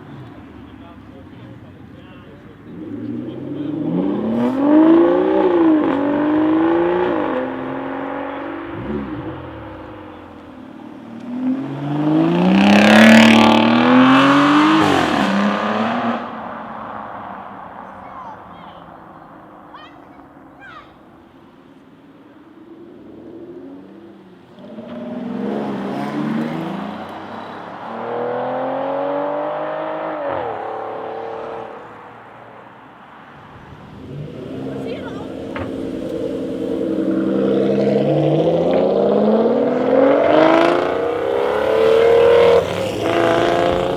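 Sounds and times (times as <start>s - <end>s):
car engine accelerating: 0.0s - 20.4s, 21.2s - 43.9s.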